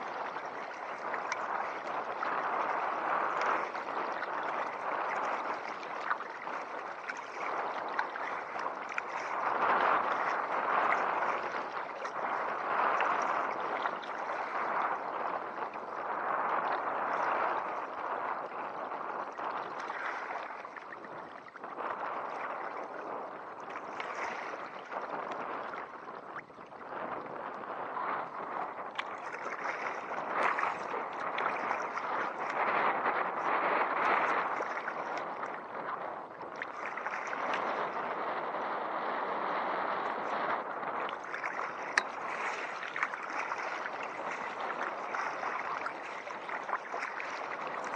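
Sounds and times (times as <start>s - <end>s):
water splashing around kayak: 0.0s - 47.9s.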